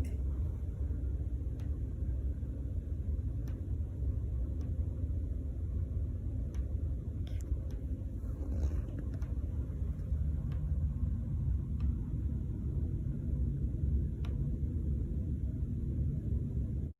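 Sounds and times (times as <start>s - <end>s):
sharp ticks in walls: 0.0s - 15.7s
heating system rumble: 0.0s - 16.9s.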